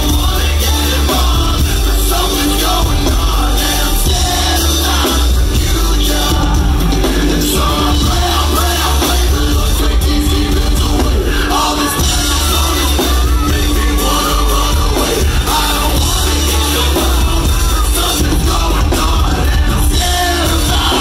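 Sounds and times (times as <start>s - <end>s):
loud live band music: 0.0s - 21.0s
person singing: 0.0s - 21.0s.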